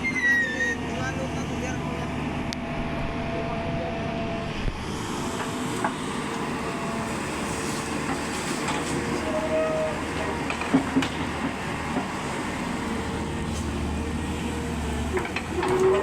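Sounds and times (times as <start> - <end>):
truck engine rumble: 0.0 - 16.0.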